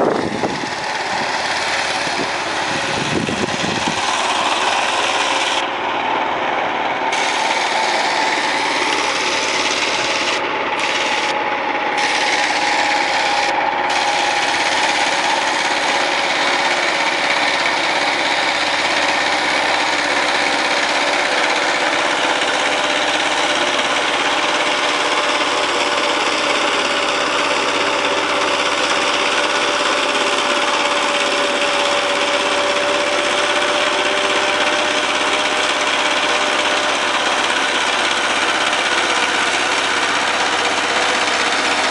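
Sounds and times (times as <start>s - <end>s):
power tiller engine running: 0.0s - 41.9s.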